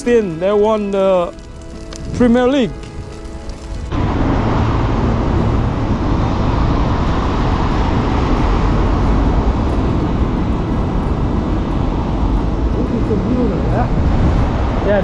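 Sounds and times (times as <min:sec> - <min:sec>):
traffic: 0:00.0 - 0:15.0
wind and road noise: 0:00.0 - 0:15.0.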